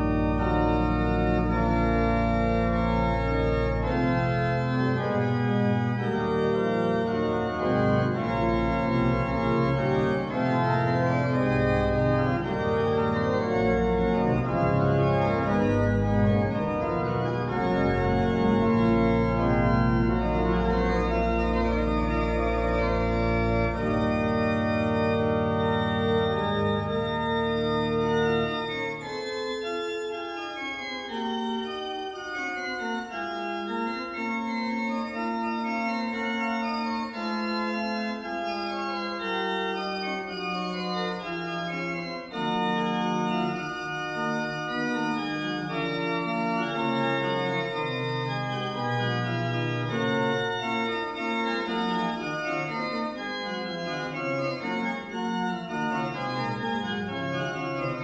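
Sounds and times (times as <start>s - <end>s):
pipe organ playing slow music: 0.0s - 58.0s.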